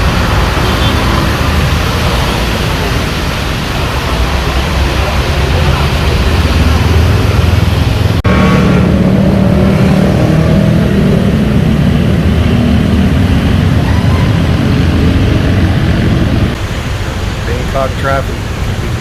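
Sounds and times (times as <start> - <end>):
car and motorbike engines: 0.0 - 19.0.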